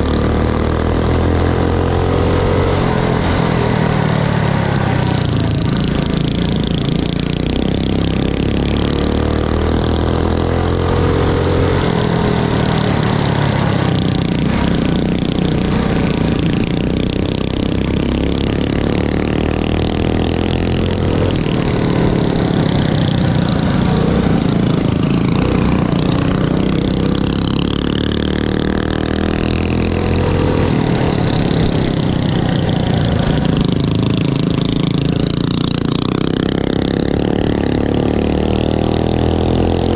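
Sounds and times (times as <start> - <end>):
mini bike engines racing: 0.0 - 39.9.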